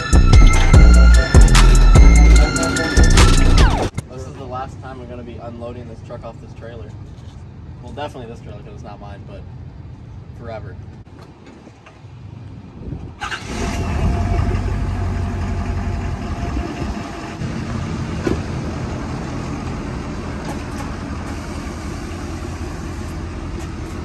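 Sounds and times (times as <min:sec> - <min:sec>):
truck engine starting and idling: 0:00.0 - 0:11.0, 0:11.6 - 0:24.0.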